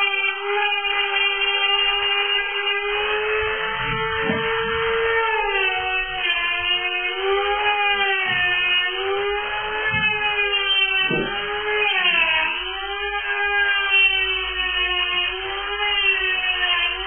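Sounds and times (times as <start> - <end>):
electric grinder whining: 0.0 - 17.0.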